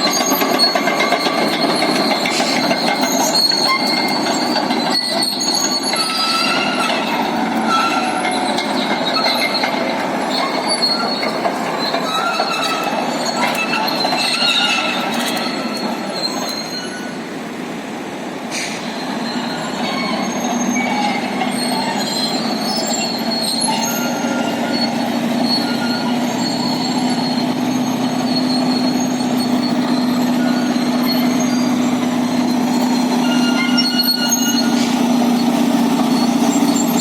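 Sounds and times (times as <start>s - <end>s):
diesel engine running: 0.0s - 18.5s, 20.0s - 37.0s
steel tracks squealing and clanking: 0.0s - 37.0s.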